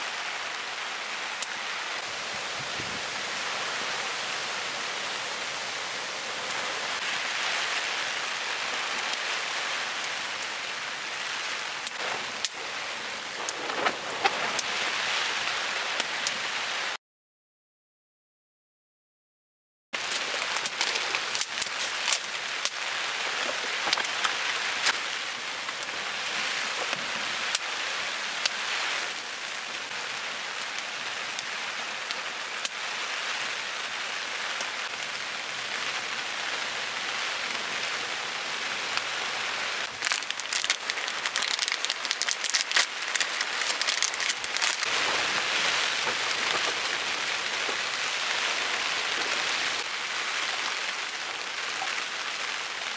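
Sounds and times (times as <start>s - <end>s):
heavy rain falling: 0.0s - 17.0s, 20.0s - 52.9s.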